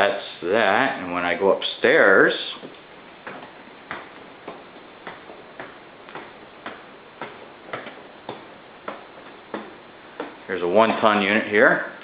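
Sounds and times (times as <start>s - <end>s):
footsteps climbing stairs: 2.4s - 12.0s.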